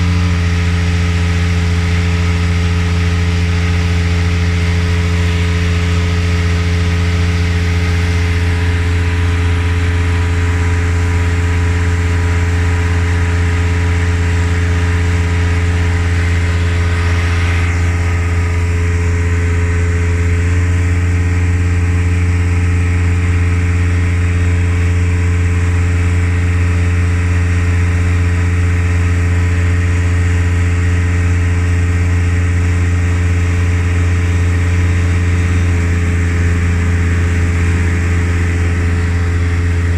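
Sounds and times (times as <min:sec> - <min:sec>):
engine droning hum: 0:00.0 - 0:39.9.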